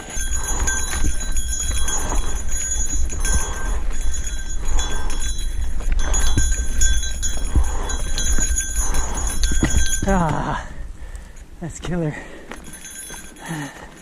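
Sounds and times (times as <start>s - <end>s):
steady low rumble: 0.0s - 13.4s
heavy rhythmic breathing: 0.0s - 14.0s.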